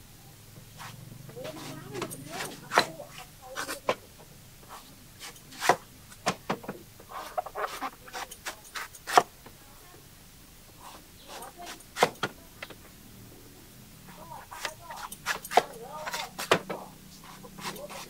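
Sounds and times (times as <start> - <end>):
cleaver chopping coconut husk: 0.6 - 9.4, 10.8 - 12.8, 14.1 - 18.0.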